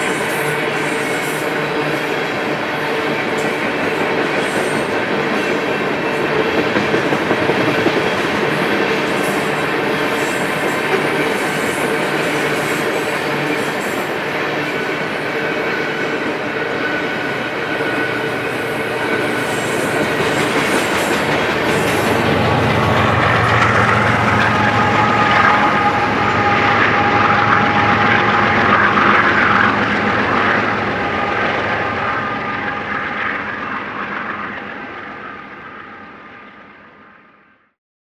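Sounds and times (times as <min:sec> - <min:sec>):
freight train wheels clattering: 0:00.0 - 0:34.4
diesel locomotives passing: 0:00.0 - 0:37.5.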